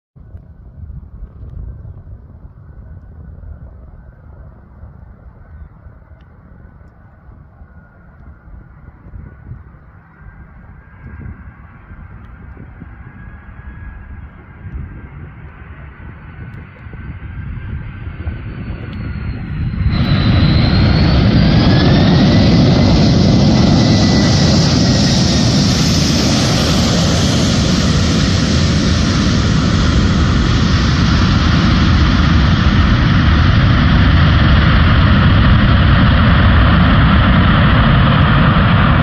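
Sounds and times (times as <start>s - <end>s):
jet engine roar: 0.2s - 39.0s
jet engine whining tones: 1.7s - 39.0s.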